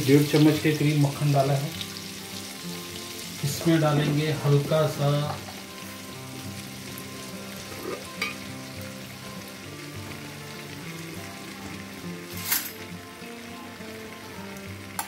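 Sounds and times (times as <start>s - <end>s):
butter and oil sizzling: 0.0s - 15.0s.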